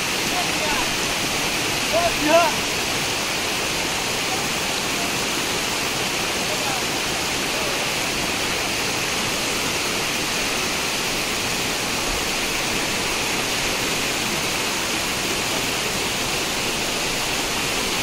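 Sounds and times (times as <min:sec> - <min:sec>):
waterfall and stream flowing: 0:00.0 - 0:18.0.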